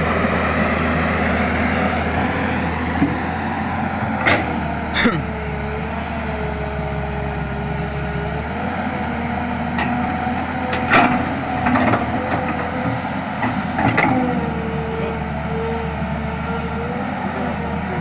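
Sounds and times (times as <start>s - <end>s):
excavator engine humming: 0.0s - 18.0s.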